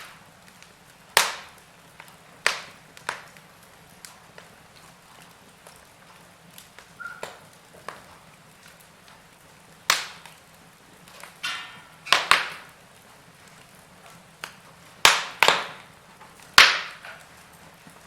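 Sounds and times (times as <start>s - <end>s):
fire hissing: 0.0s - 18.0s
log fire crackling: 0.0s - 18.0s.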